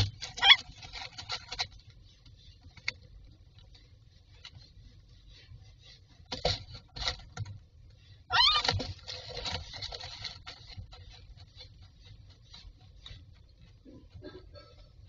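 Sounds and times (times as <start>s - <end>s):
dry grass rustling: 0.0s - 14.4s.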